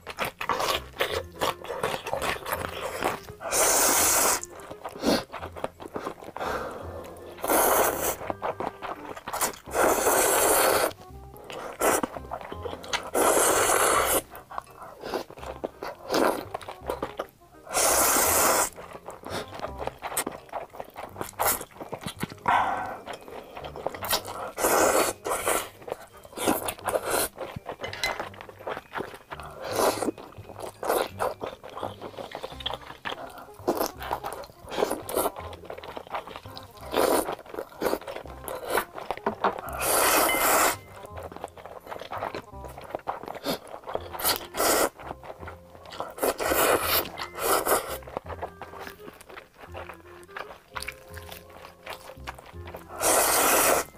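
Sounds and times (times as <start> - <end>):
wet chewing and lip smacking: 0.0 - 53.9
noodles slurped loudly: 0.4 - 11.0, 11.6 - 27.7, 28.5 - 53.9.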